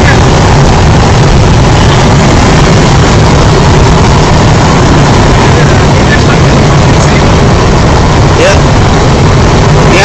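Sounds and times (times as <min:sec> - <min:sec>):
strong wind on microphone: 0:00.0 - 0:10.0.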